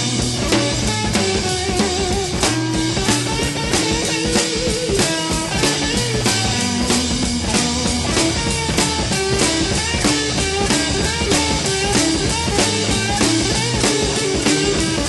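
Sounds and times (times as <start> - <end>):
bass: 0.0 - 15.0
drum kit beat: 0.0 - 15.0
electric guitar lead: 0.0 - 15.0.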